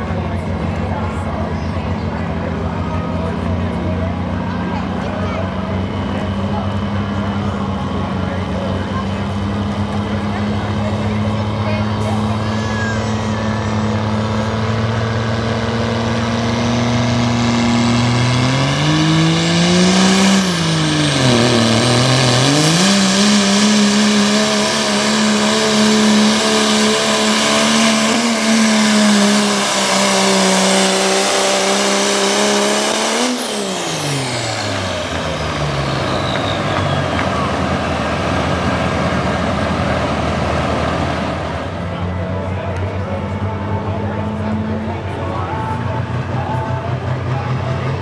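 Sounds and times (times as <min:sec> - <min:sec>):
diesel truck engine revving: 0:00.0 - 0:48.0.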